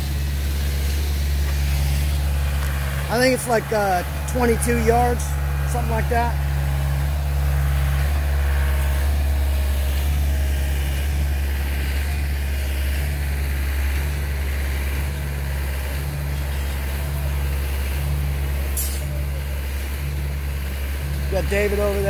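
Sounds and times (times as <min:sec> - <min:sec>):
low engine drone: 0:00.0 - 0:22.0
pitched pump hum: 0:00.0 - 0:22.0.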